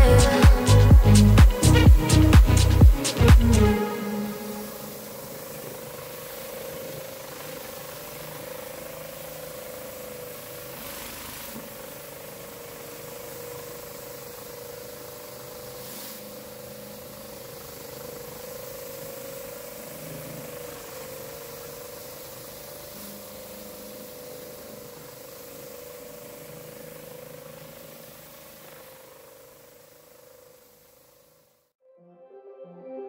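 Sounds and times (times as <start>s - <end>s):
pressure washer drone: 0.0s - 31.7s
water spray hiss: 0.0s - 31.7s.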